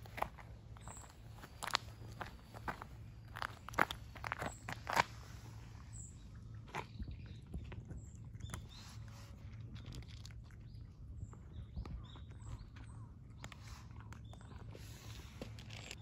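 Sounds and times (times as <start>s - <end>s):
cats chewing food: 0.0s - 16.0s.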